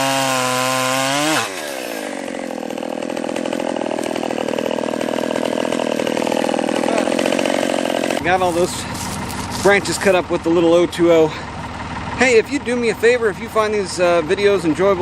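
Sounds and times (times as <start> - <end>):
chainsaw revving: 0.0 - 14.6.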